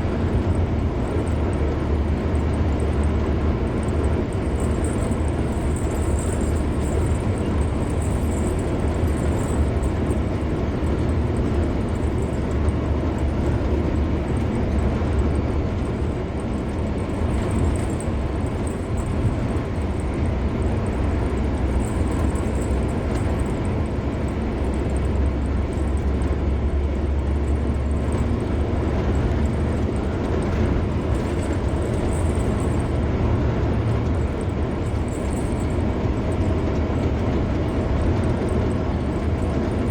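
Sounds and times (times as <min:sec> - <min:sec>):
car road noise at speed: 0:00.0 - 0:39.9.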